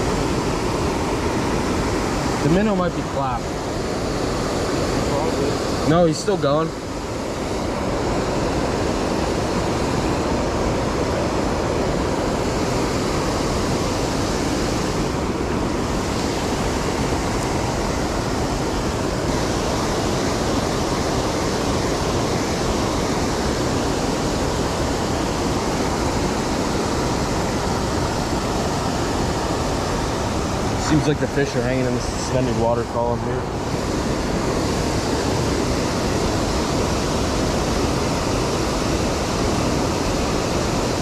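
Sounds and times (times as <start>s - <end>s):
creek water rushing: 0.0s - 41.0s.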